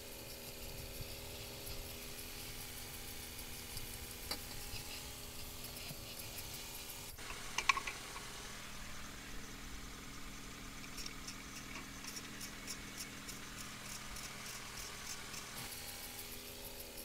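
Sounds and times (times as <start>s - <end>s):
light regular ticking: 0.0s - 15.8s
car engine idling: 0.0s - 17.0s.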